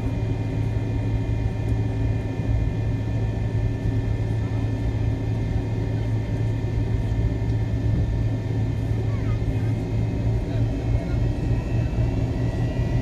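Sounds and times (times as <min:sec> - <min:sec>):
jet engines low hum: 0:00.0 - 0:13.0
thin high engine whine: 0:00.0 - 0:13.0.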